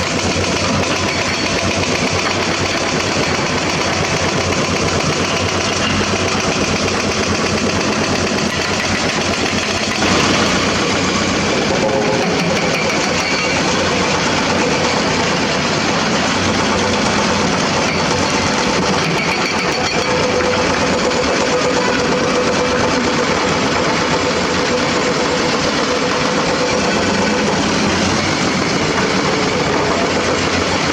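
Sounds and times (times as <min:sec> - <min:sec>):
excavator diesel engine running: 0:00.0 - 0:30.9.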